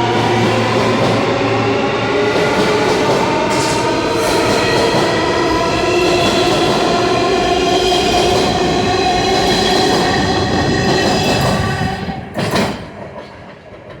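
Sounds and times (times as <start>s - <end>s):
subway train motor whine: 0.0s - 12.4s
train running noise: 0.0s - 14.0s.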